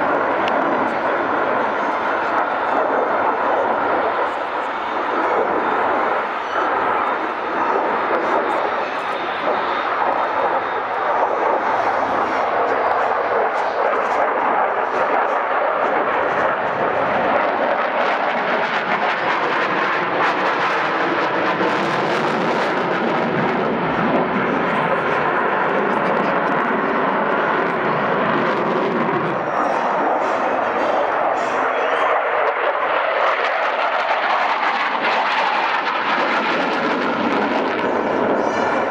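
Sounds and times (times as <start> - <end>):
jet engines roaring overhead: 0.0 - 38.9.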